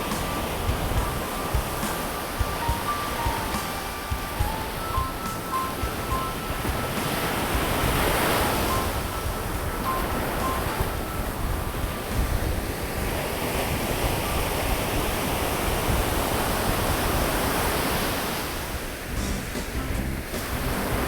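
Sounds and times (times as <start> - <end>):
ocean waves breaking on beach: 0.0 - 21.0
wind buffeting microphone: 0.0 - 21.0.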